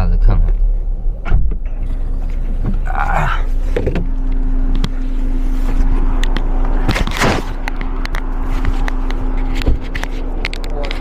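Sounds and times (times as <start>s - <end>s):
car road and drivetrain rumble: 0.0s - 11.0s
steady hum: 0.0s - 11.0s.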